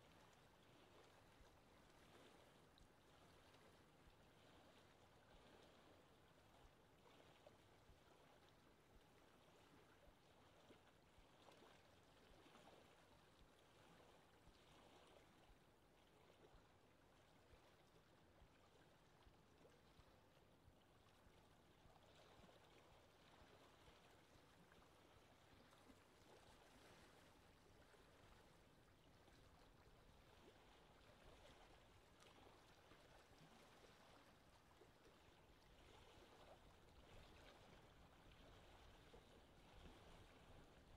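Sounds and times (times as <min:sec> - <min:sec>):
lake water lapping: 0:00.0 - 0:40.9.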